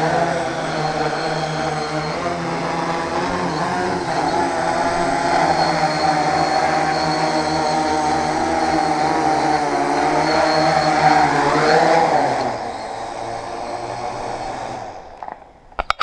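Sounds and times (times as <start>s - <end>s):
drone propellers whirring: 0.0s - 16.0s.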